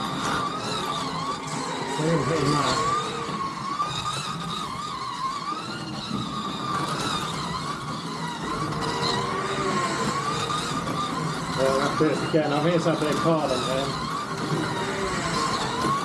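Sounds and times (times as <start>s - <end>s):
rattle of wheels on track: 0.0s - 16.0s
slot car motors whining: 0.0s - 16.0s.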